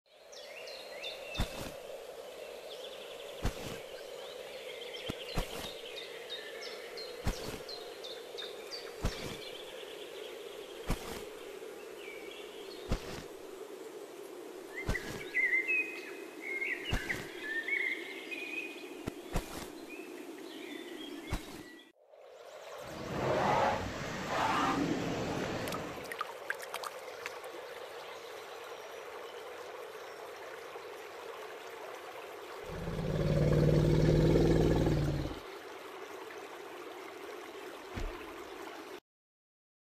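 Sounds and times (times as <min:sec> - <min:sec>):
small birds chirping: 0:00.1 - 0:13.6, 0:14.6 - 0:30.7, 0:32.6 - 0:35.4.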